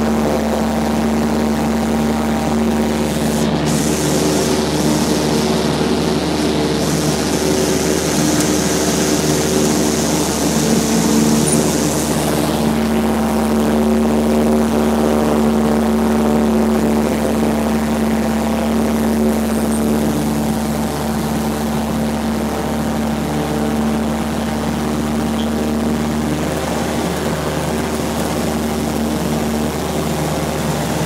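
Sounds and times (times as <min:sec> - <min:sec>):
propeller airplane engine running: 0:00.0 - 0:31.0.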